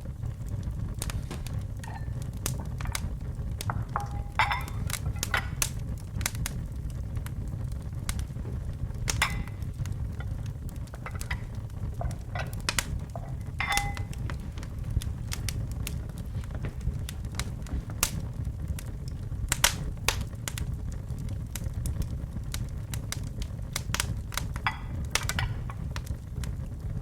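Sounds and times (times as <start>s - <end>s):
fire crackling and popping: 0.0s - 27.0s
fire rumbling in fireplace: 0.0s - 27.0s.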